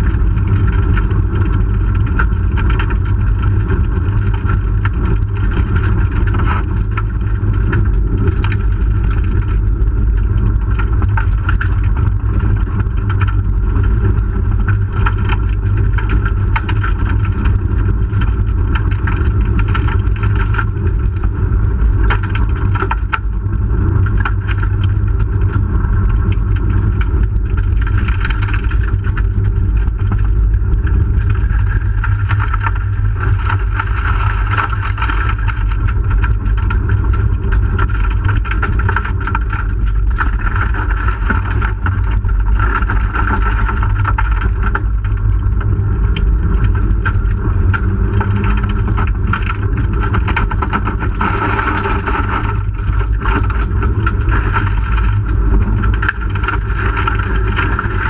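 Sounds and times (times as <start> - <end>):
car engine running under load: 0.0 - 58.0
tyre and road noise: 0.0 - 58.0.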